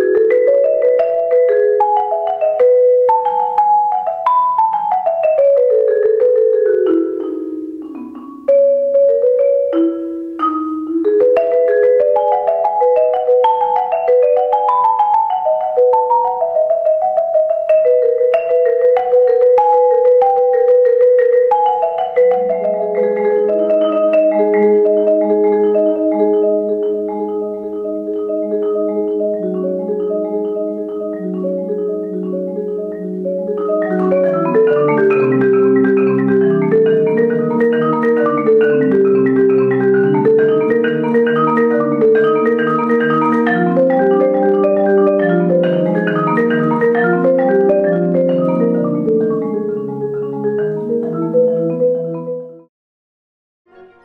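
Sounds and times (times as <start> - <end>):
marimba chords: 0.0 - 52.7.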